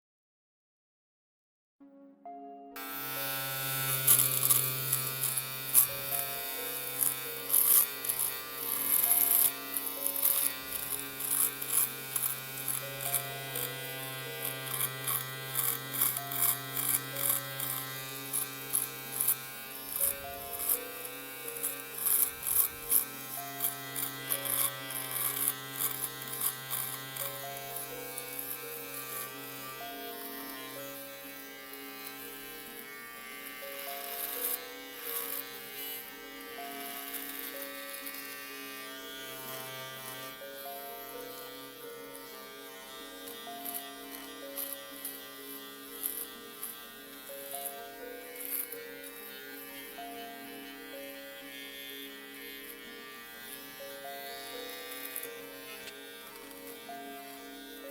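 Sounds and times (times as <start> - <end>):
electric shaver buzzing: 2.3 - 57.9.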